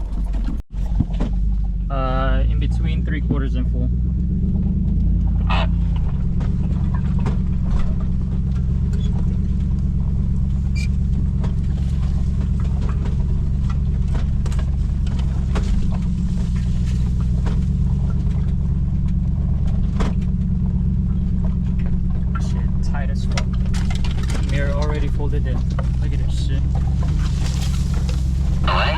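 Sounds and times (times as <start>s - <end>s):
clicks and knocks from tyres: 0.0s - 1.9s, 4.0s - 28.9s
engine running at low speed: 0.0s - 28.9s.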